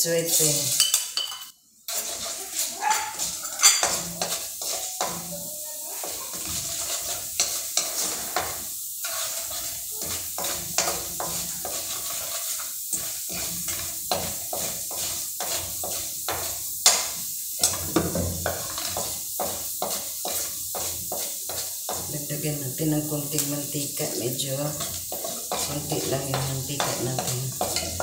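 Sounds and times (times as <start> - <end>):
seeds sizzling in oil in a frying pan: 0.0 - 28.0
spatula scraping and tapping a pan: 0.3 - 23.6, 24.3 - 28.0.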